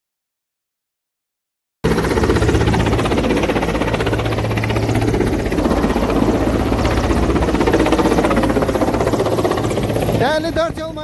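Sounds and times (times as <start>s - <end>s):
helicopter engine and rotor: 1.8s - 11.0s.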